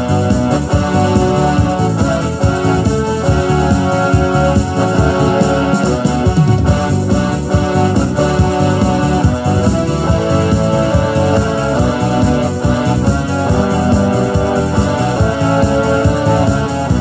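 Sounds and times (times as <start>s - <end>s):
electronic keyboard playing a hymn: 0.0s - 17.0s.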